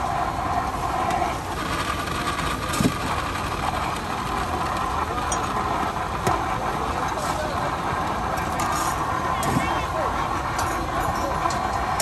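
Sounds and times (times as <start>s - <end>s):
blender motor hum: 0.7s - 10.4s.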